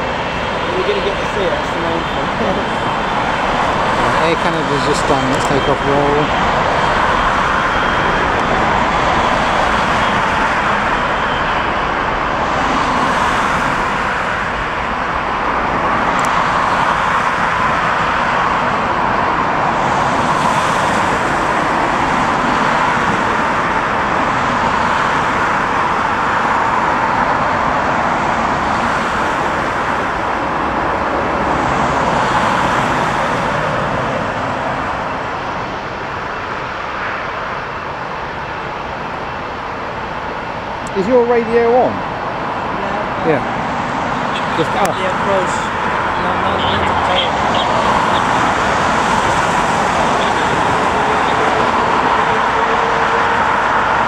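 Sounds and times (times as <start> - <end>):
jet engines roaring: 0.0 - 54.0
road traffic noise: 0.0 - 54.0.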